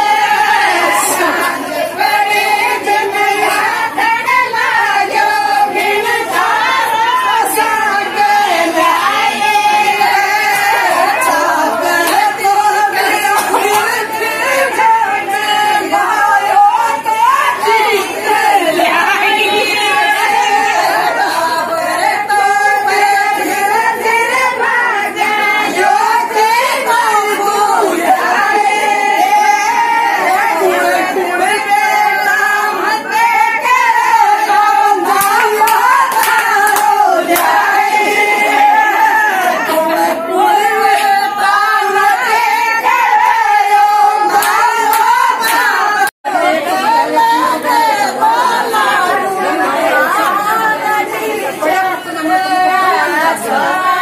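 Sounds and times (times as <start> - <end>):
women singing folk song: 0.0 - 54.0.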